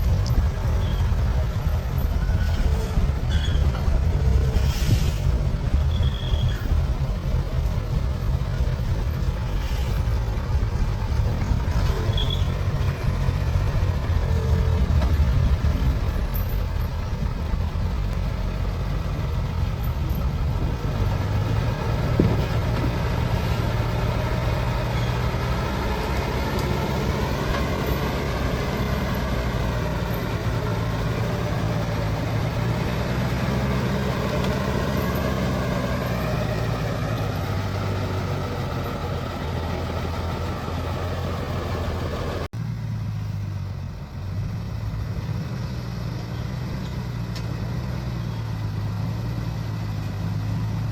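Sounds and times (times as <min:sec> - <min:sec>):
heavy diesel engine running: 0:00.0 - 0:50.9.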